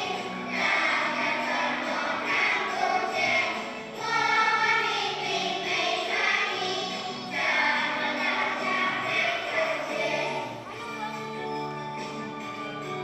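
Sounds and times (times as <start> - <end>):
children singing in unison: 0.0 - 10.6
musical backing: 0.0 - 13.0.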